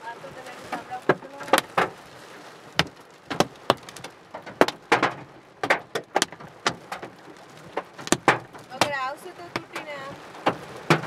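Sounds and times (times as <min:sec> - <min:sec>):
hail knocking on car roof: 0:00.0 - 0:11.0
steady hail patter: 0:00.0 - 0:11.0.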